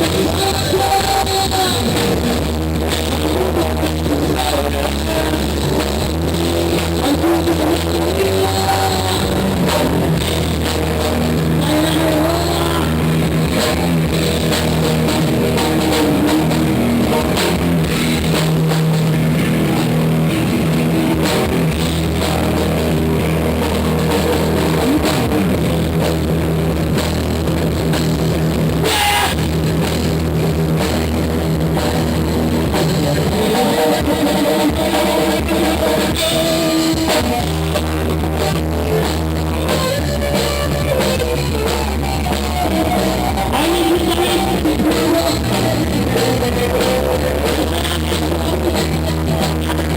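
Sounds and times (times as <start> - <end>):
drum kit beat: 0.0 - 49.9
rock band playing: 0.0 - 49.9.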